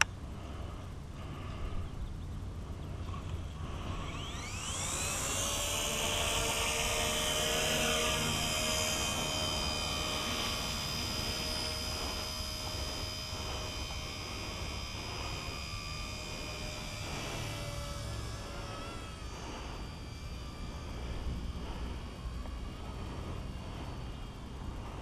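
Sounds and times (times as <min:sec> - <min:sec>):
model helicopter motor whine: 0:00.0 - 0:25.0.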